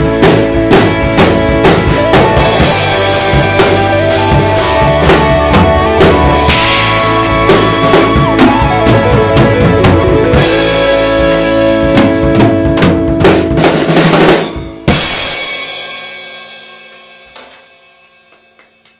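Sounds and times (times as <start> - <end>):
loud ringing drum hit: 0.0 - 9.2, 10.4 - 18.9
backing track music: 0.0 - 18.8
drum kit playing: 0.0 - 18.9.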